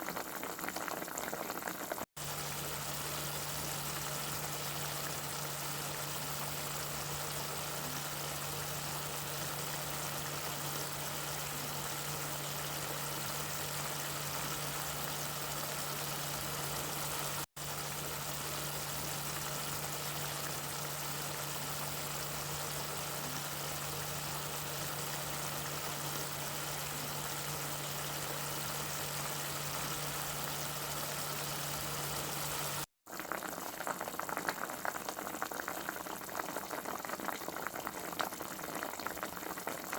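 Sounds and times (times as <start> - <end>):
water boiling in a pot: 0.0 - 39.9.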